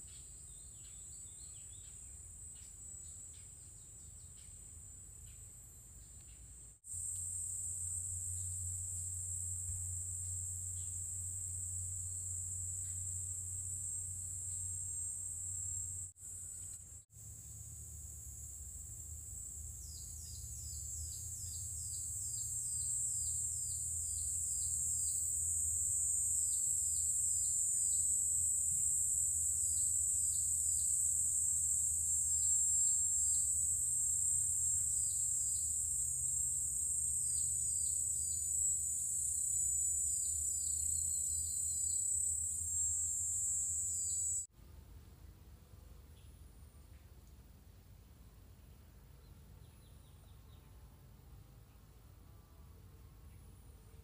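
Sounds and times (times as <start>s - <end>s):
insects droning: 0.0s - 44.5s.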